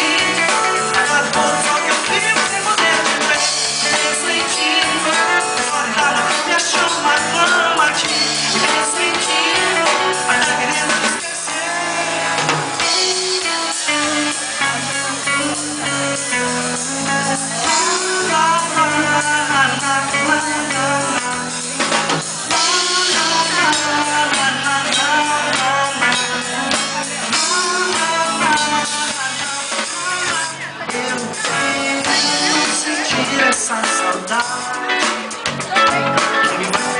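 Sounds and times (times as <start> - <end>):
band playing pop-rock: 0.0 - 36.9.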